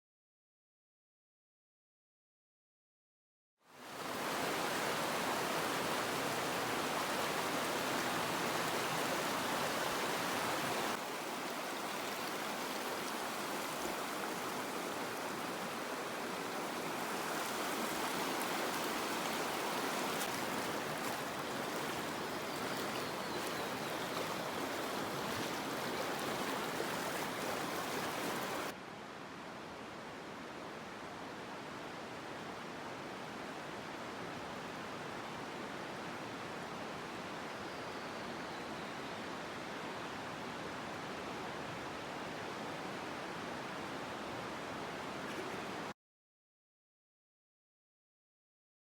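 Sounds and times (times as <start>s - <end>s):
river water rushing: 3.8s - 45.9s.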